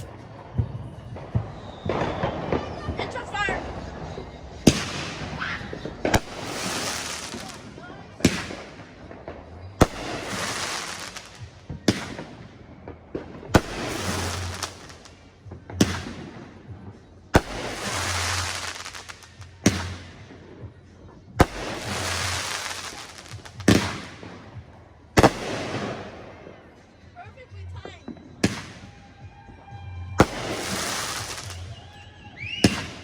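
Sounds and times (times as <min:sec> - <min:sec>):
fireworks crackling hiss: 0:00.0 - 0:20.4, 0:21.4 - 0:26.2, 0:30.2 - 0:33.0
fireworks bangs: 0:00.0 - 0:33.0.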